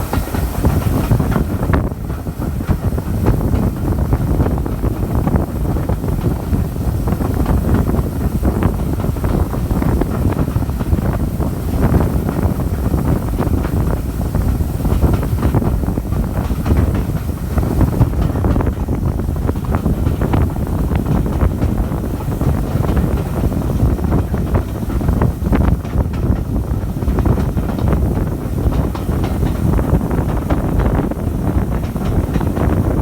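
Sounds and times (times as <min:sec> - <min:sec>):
train rumbling along: 0:00.0 - 0:33.0
wheels knocking and clattering: 0:00.0 - 0:33.0
wind buffeting microphone: 0:00.0 - 0:33.0.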